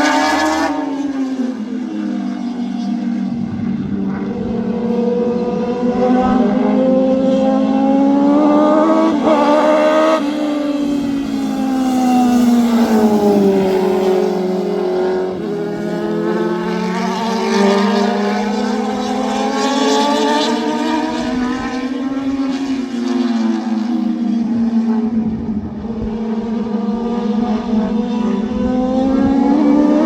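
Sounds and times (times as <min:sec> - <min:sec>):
high-revving race engine: 0:00.0 - 0:30.0.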